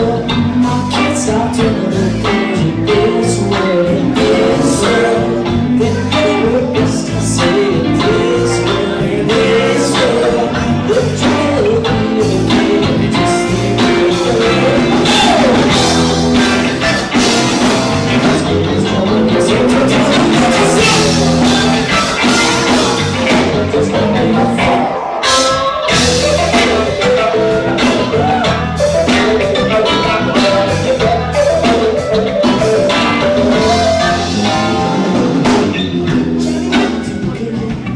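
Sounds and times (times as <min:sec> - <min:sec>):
bass: 0:00.0 - 0:37.9
drum kit: 0:00.0 - 0:37.9
electric guitars: 0:00.0 - 0:37.9
keyboard: 0:00.0 - 0:37.9
person singing lead vocal: 0:00.0 - 0:37.9.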